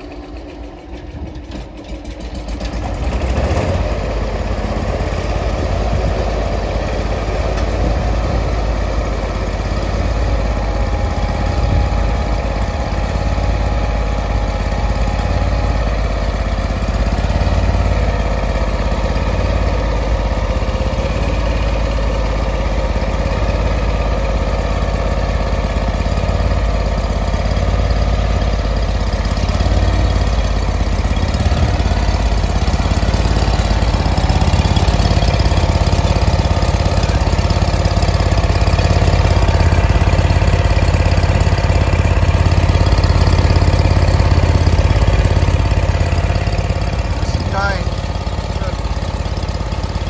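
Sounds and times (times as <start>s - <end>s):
stump grinder engine running: 0.0s - 50.0s.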